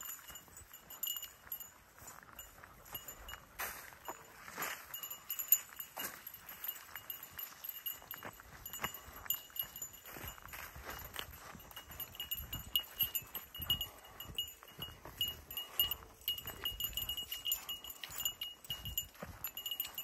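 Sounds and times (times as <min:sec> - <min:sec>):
metal collar tags jingling: 0:00.0 - 0:20.0
footsteps through grass: 0:02.0 - 0:20.0.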